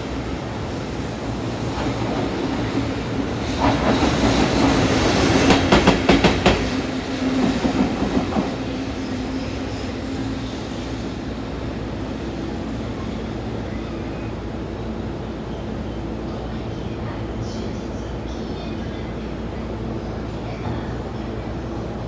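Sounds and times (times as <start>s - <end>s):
electric locomotive running hum: 0.0s - 22.0s.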